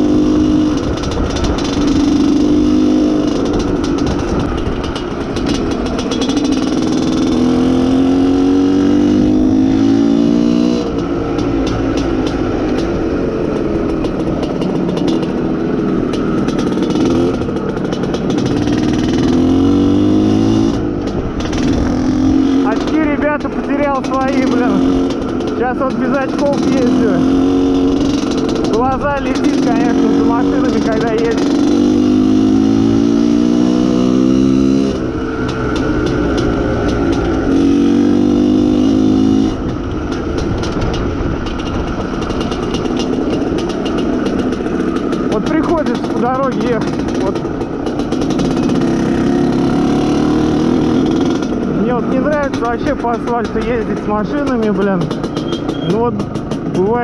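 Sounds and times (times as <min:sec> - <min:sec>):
two-stroke motorcycle engine running: 0:00.0 - 0:57.0.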